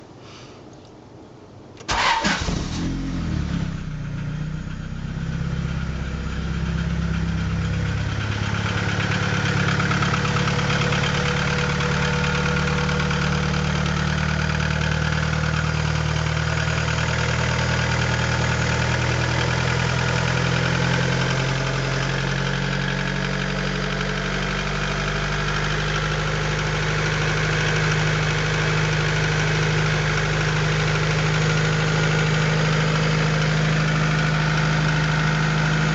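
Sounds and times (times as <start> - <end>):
car engine starting and idling: 1.8 - 35.9.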